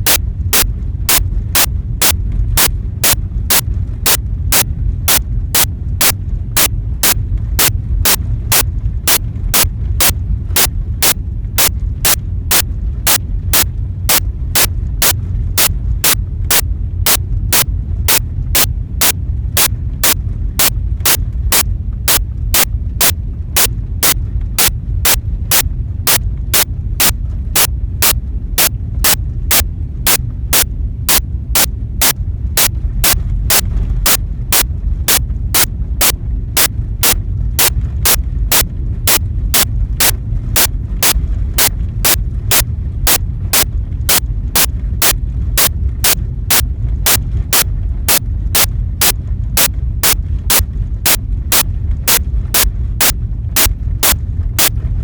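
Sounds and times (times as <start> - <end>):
sharp clicks: 0.0 - 54.7
low rumble: 0.0 - 55.0.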